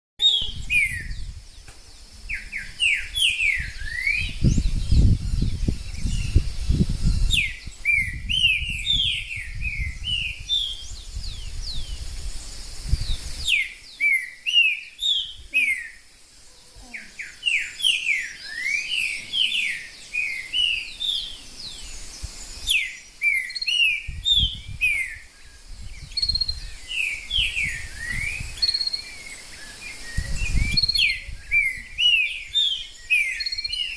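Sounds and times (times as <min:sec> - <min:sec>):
bird singing whistled notes: 0:00.2 - 0:33.9.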